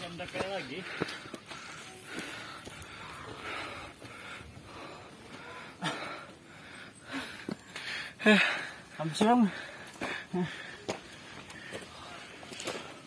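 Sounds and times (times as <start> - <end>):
heavy breathing: 0.7 - 13.0.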